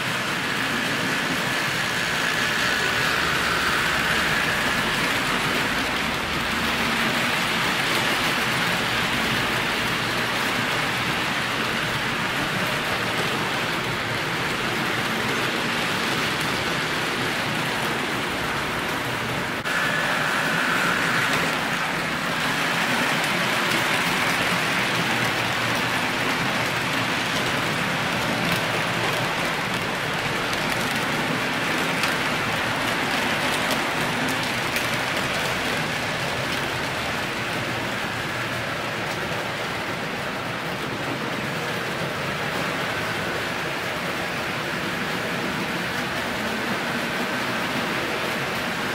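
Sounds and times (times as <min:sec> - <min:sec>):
model train wheels hissing on rails: 0:00.0 - 0:48.9.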